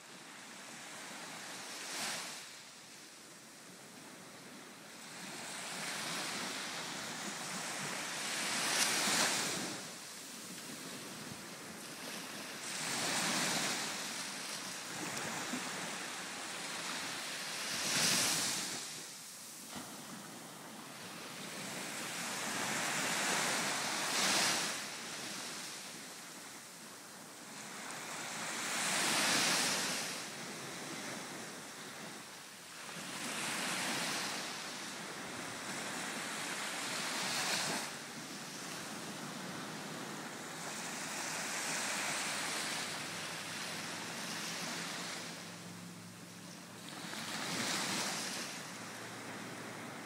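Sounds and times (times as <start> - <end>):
small waves breaking on beach: 0.0 - 50.0.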